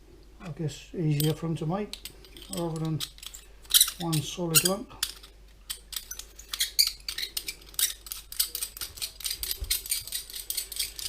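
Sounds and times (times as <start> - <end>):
small plastic parts clicking: 1.2 - 11.0.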